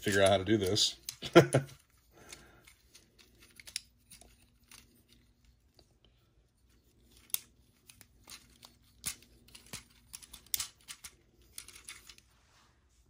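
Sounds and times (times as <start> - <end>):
plastic toy parts clicking: 0.0 - 5.5, 7.0 - 12.2.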